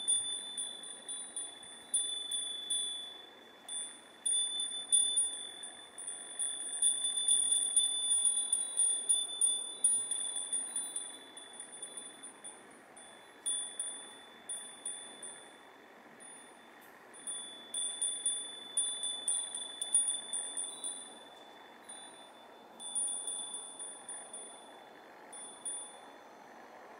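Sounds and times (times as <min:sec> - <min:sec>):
wind chime tinkling: 0:00.0 - 0:15.6, 0:16.2 - 0:26.1
faint street hum: 0:00.0 - 0:26.9.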